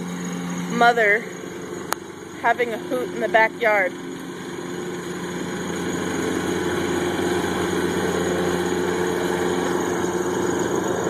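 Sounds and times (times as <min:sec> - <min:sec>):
riding lawnmower engine: 0:00.0 - 0:11.0.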